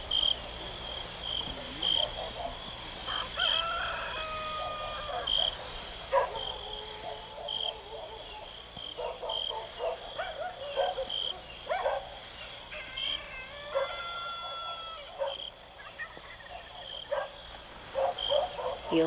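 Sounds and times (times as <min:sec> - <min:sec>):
animal yelps and squeals: 0:01.8 - 0:17.2.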